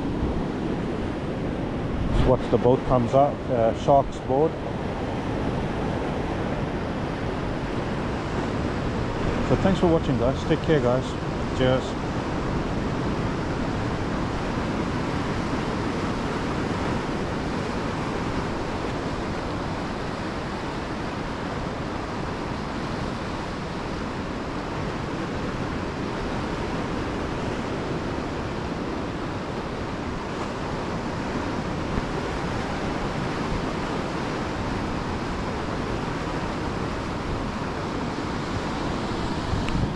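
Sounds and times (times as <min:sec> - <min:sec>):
waves breaking on rocks: 0:00.0 - 0:39.9
wind on microphone: 0:00.0 - 0:39.9.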